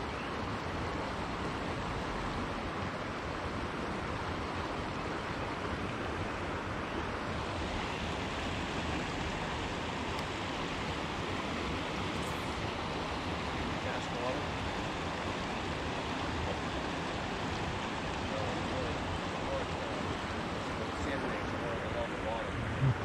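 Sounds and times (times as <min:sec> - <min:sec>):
river water rushing over rocks: 0:00.3 - 0:23.0.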